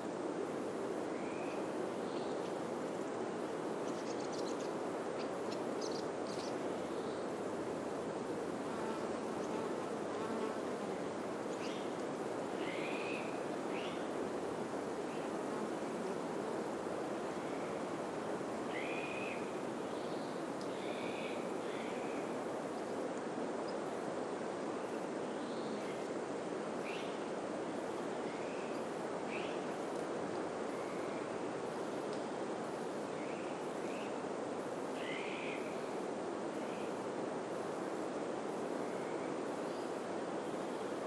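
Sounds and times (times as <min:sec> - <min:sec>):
wind through pine trees: 0:00.0 - 0:41.0.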